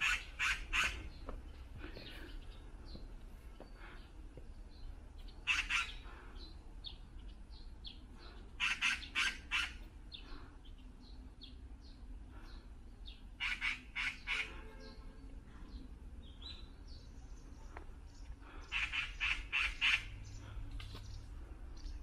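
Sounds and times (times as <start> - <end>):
harsh bird calls: 0.0 - 22.0.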